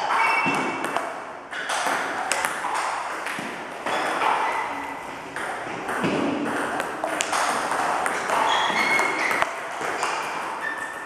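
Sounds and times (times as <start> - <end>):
table tennis balls clicking: 0.0 - 11.0.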